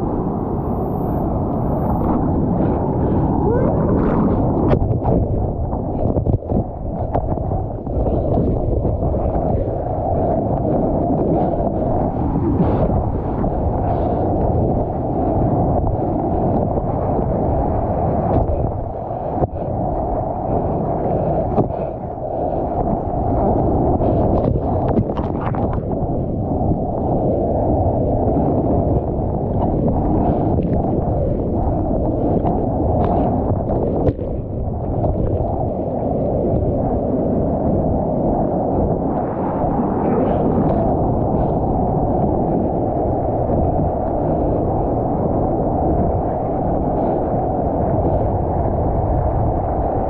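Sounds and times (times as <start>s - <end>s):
muffled rush of sea water: 0.0s - 50.0s
wind: 0.0s - 50.0s.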